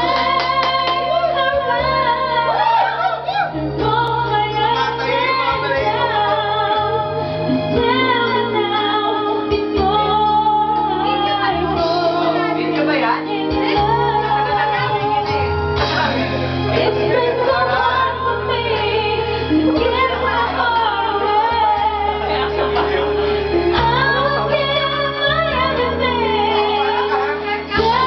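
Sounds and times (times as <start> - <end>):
backing track with bass notes: 0.0 - 28.0
woman singing karaoke: 0.0 - 28.0.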